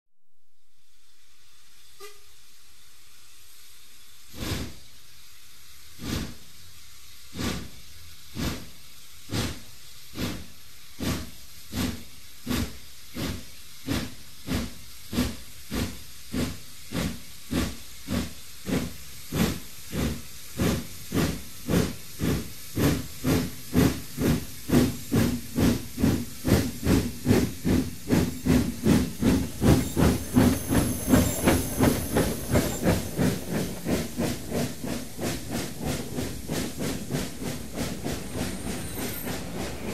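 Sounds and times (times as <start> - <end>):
steam hissing: 1.0 - 39.9
steam locomotive exhaust beats: 1.0 - 39.9.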